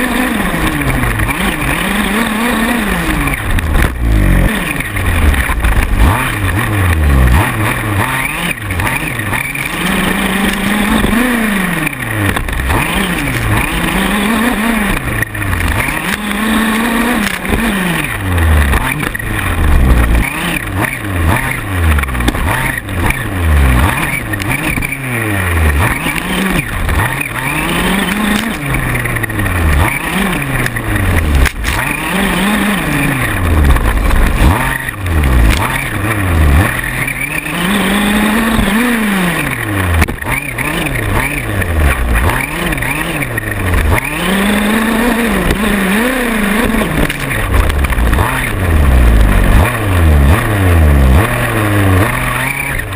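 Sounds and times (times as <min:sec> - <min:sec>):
small engine revving: 0:00.0 - 0:52.9.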